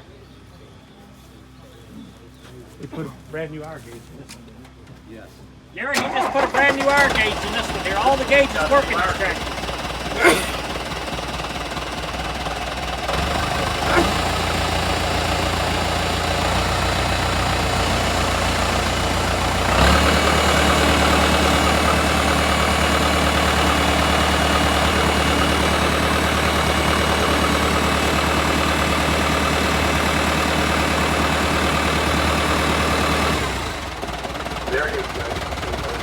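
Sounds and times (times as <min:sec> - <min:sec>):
tractor engine running: 0:05.8 - 0:36.0.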